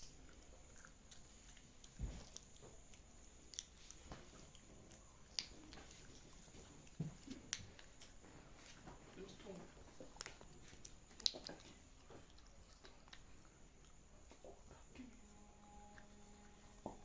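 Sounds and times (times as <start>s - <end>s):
person chewing: 0.0s - 8.9s, 9.7s - 15.0s.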